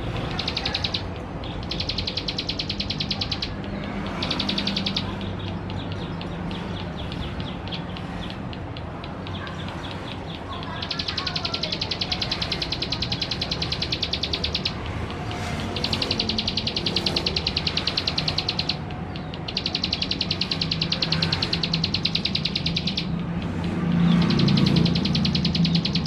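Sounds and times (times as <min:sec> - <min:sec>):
bird singing a dry trill: 0:00.0 - 0:26.0.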